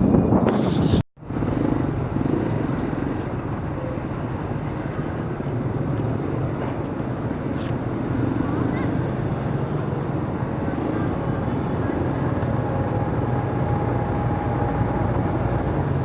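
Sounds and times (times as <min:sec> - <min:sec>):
motorcycle engine cruising: 0:00.0 - 0:16.0
road and wind noise: 0:00.0 - 0:16.0.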